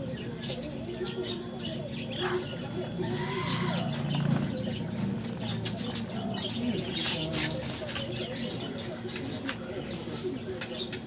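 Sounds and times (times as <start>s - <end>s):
pet birds chirping and cooing: 0.0s - 11.0s.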